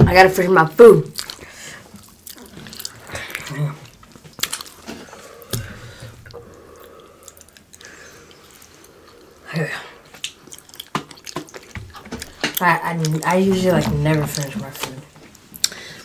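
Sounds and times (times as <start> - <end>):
mouth smacks and chewing: 1.1 - 16.0.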